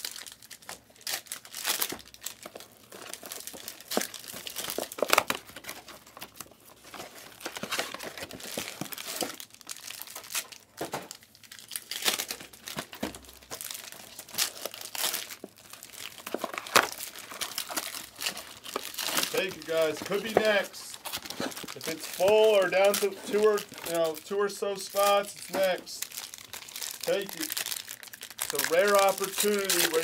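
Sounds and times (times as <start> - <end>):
plastic wrapping crinkling and tearing: 0.0 - 30.0.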